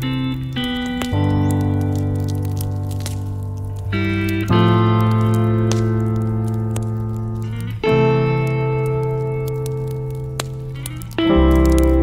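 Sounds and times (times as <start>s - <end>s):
background music chords: 0.0s - 12.0s.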